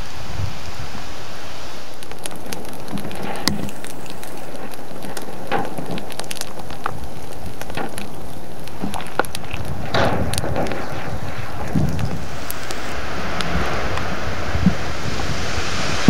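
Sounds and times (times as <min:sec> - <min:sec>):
steady steam hiss: 0:00.0 - 0:16.0
pops and crackles of bursting spatter: 0:01.8 - 0:16.0
loud cracks: 0:01.9 - 0:15.2.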